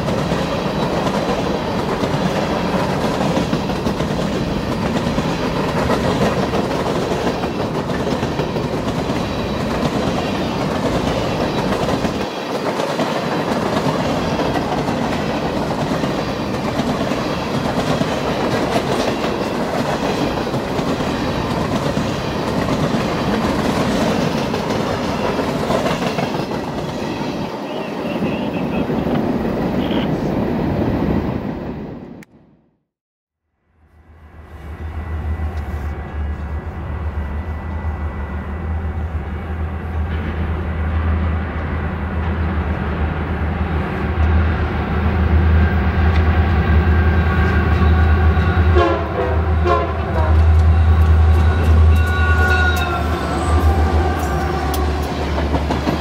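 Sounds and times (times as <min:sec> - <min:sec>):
train wheels rumbling on rails: 0:00.0 - 0:32.2, 0:34.4 - 0:56.0.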